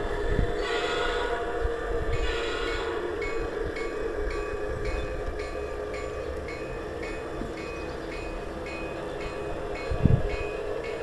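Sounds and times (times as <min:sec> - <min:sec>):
model train running hum: 0:00.0 - 0:11.0
regular track clicking: 0:02.1 - 0:11.0.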